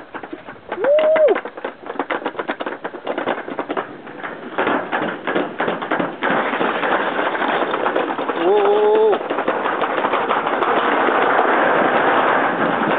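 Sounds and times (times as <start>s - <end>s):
sled clattering down metal chute: 0.0s - 12.9s.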